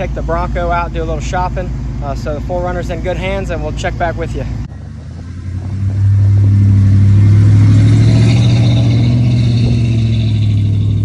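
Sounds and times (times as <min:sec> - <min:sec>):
truck engine pulling under load: 0:00.0 - 0:11.0.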